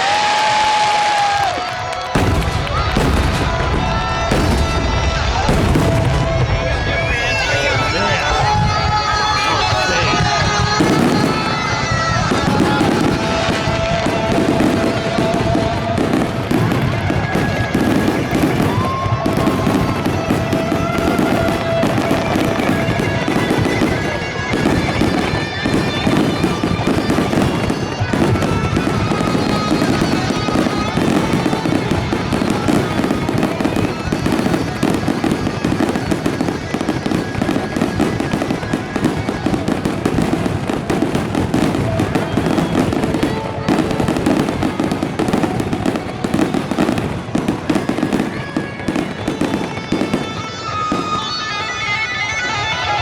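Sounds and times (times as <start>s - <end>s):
fireworks popping and crackling: 0.0s - 53.0s.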